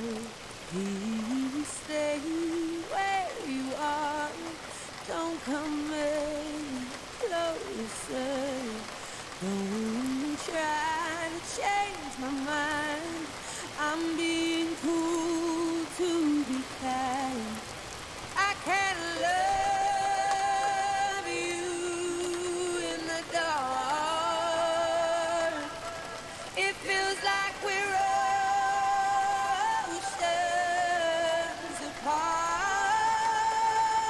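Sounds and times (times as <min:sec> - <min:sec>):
steady rain: 0:00.0 - 0:34.0
woman singing a slow ballad: 0:00.0 - 0:34.0.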